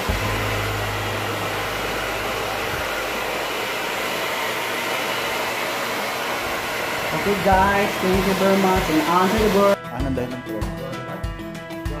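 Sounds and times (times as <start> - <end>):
hair dryer blowing: 0.0 - 9.8.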